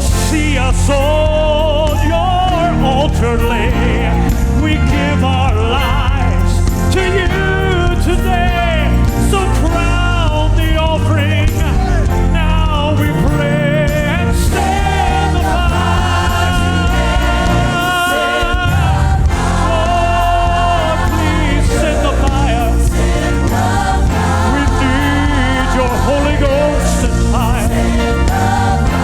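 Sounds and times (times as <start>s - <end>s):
band with deep bass: 0.0s - 29.0s.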